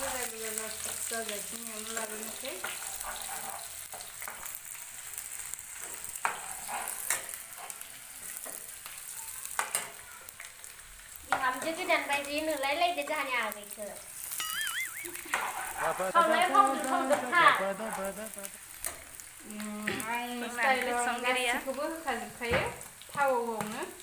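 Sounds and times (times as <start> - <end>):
food sizzling in wok: 0.0 - 24.0.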